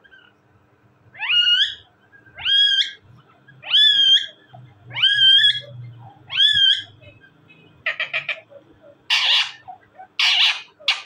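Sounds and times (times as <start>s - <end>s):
parakeet calling: 1.1s - 11.0s.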